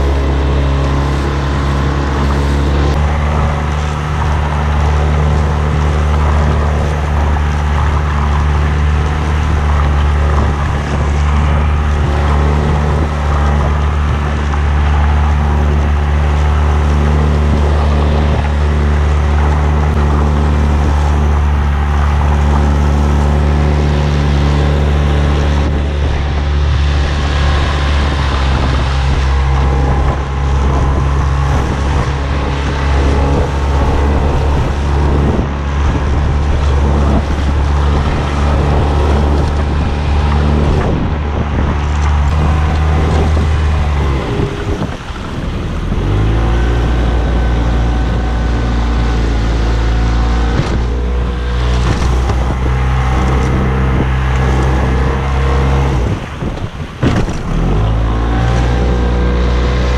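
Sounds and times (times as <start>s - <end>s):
outboard motor droning: 0.0s - 59.9s
wind: 0.0s - 59.9s.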